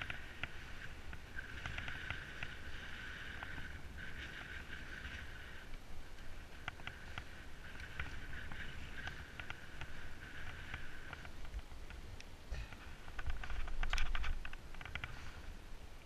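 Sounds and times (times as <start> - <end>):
bike rattling clicks: 0.0 - 15.3
wind rumble on microphone: 0.0 - 16.0.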